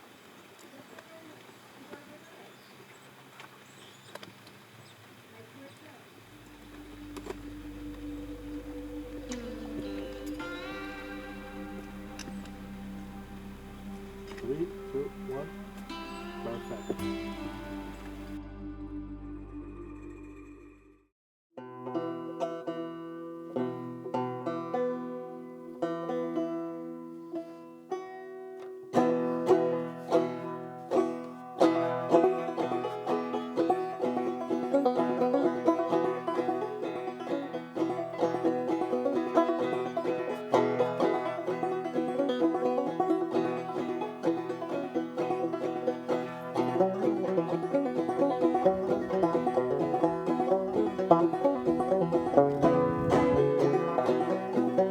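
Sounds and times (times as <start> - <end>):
banjo picking: 6.4 - 19.7, 21.6 - 54.9.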